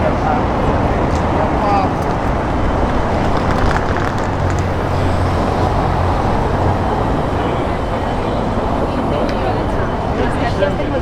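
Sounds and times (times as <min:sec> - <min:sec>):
city street rumble: 0:00.0 - 0:11.0
wind buffeting microphone: 0:00.0 - 0:11.0.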